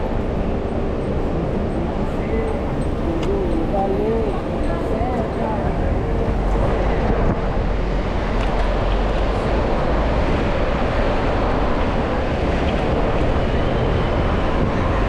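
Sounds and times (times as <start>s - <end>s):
street traffic: 0.0s - 15.0s
wind rushing on microphone: 0.0s - 15.0s.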